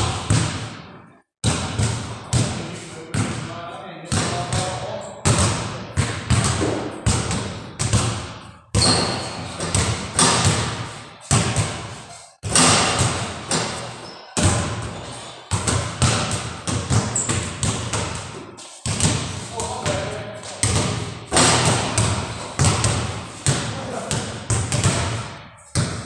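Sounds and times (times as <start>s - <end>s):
basketballs bouncing on hard floor: 0.0s - 3.5s, 4.1s - 26.0s.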